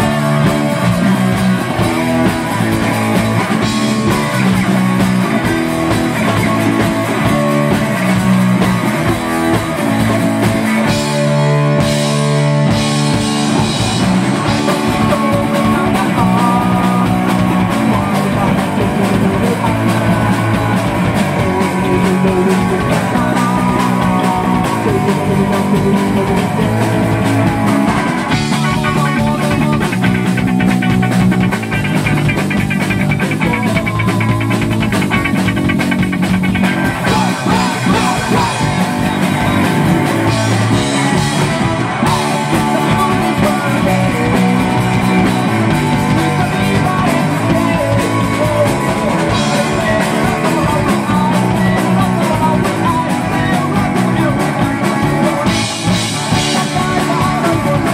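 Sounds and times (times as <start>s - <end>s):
man singing: 0.0s - 35.6s, 36.7s - 57.9s
bass guitar: 0.0s - 57.9s
drum kit beat: 0.0s - 57.9s
electric guitar: 0.0s - 57.9s.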